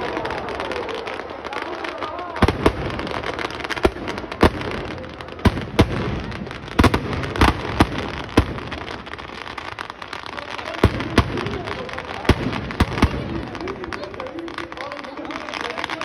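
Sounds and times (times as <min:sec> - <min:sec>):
firecrackers banging: 0:00.0 - 0:16.0.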